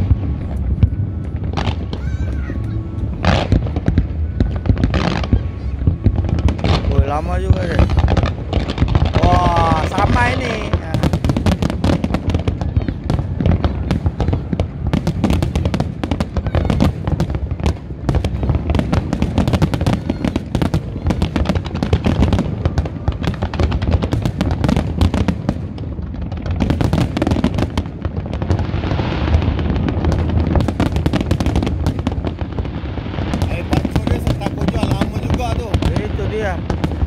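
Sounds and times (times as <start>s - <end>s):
low rumble: 0.0s - 37.0s.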